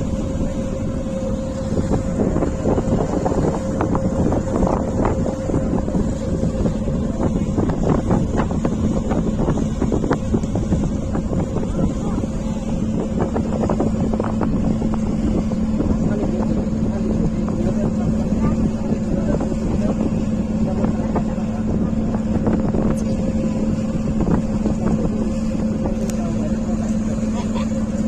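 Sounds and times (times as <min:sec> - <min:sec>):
boat engine humming: 0:00.0 - 0:28.0
wind buffeting microphone: 0:00.0 - 0:28.0.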